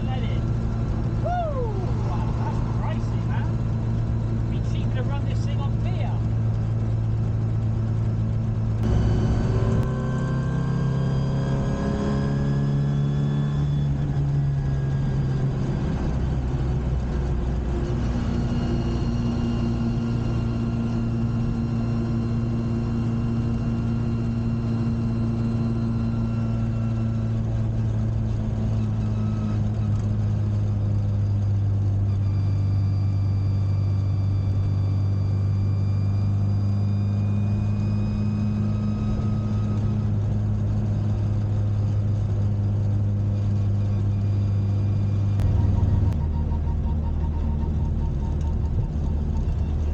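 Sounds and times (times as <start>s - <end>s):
car engine running: 0.0s - 49.9s.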